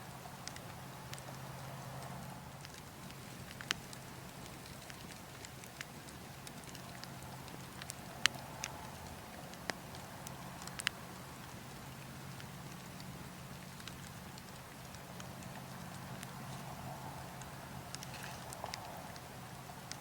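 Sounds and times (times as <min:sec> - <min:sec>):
burning logs crackling: 0:00.0 - 0:20.0
steady low wind: 0:00.0 - 0:20.0.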